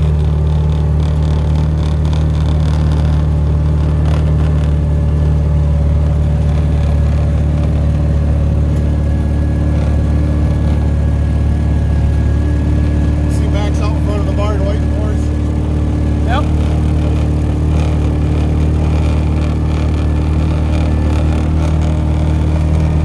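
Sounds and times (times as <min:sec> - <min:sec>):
single-cylinder engine running: 0:00.0 - 0:23.0.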